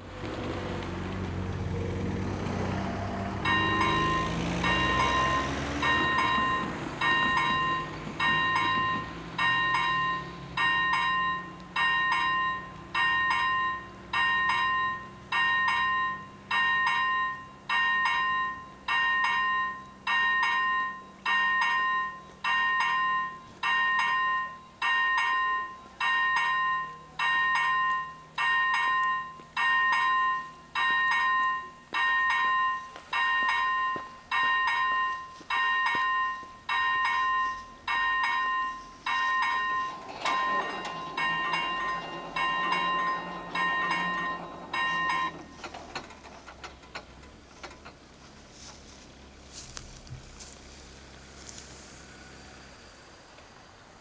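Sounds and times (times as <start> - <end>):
level crossing warning bell: 2.0 - 49.8.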